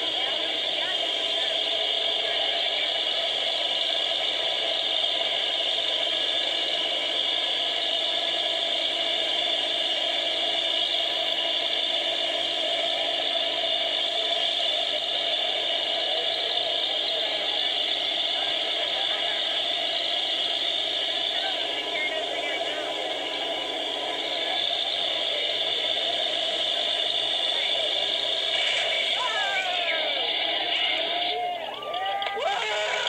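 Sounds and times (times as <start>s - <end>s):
tyres spinning: 0.0s - 33.0s.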